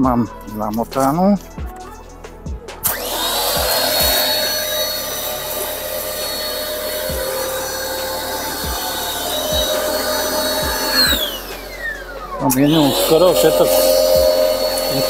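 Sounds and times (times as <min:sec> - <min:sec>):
pressure washer motor whine: 0:02.8 - 0:15.0.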